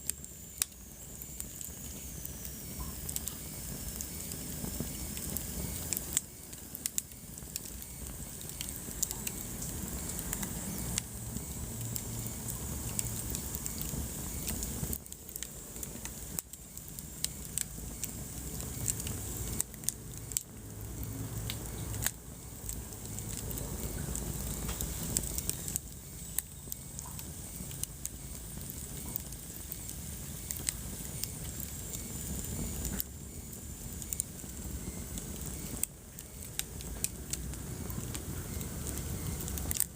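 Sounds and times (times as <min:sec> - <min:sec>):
fire crackles and pops: 0:00.0 - 0:39.9
low rumble of flames: 0:00.0 - 0:39.9.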